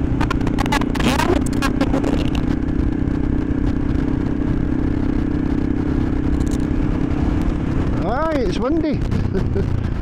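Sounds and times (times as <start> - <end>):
motorcycle engine cruising: 0.0 - 10.0
wind rumble on microphone: 0.0 - 10.0.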